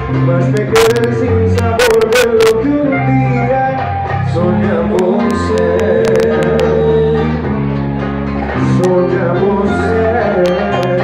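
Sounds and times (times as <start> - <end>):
band music with guitar and bass: 0.0 - 11.0.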